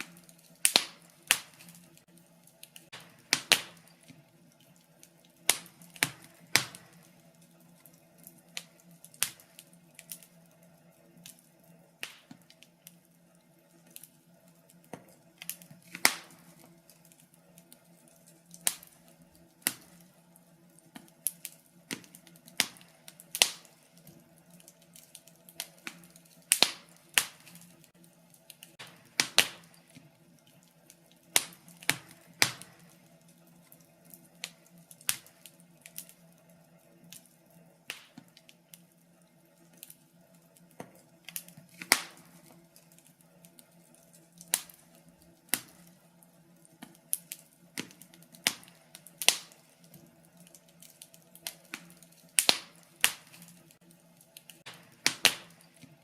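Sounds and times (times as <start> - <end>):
fire pops and snaps: 0.0 - 56.0
wood fire crackling: 0.0 - 56.0.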